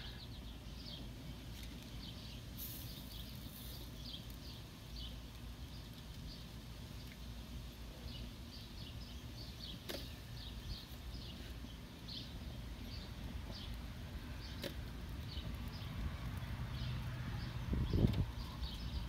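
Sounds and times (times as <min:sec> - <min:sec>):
low outdoor rumble: 0:00.0 - 0:19.0
small birds chirping: 0:00.0 - 0:19.0.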